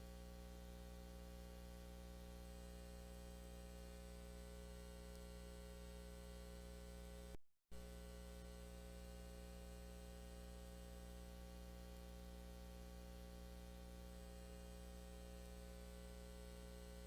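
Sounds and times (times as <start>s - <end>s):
electrical hum: 0.1s - 17.0s.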